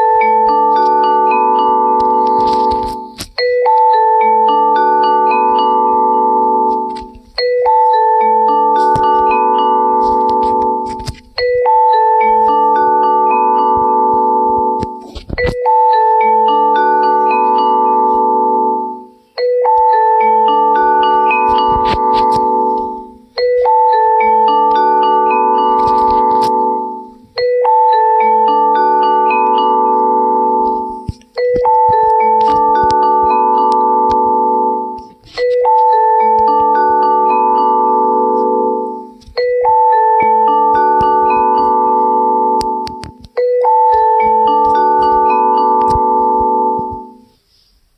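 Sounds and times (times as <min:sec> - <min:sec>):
mallet percussion ringtone melody: 0:00.0 - 0:47.4.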